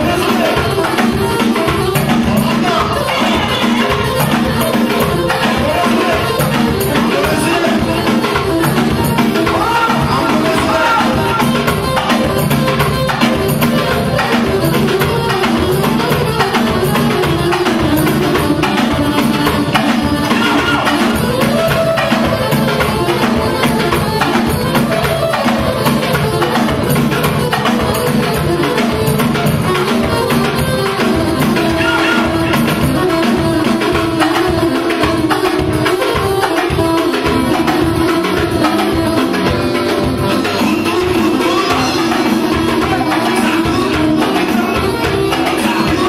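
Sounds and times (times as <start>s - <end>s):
loud live music with fast beat: 0.0s - 46.0s.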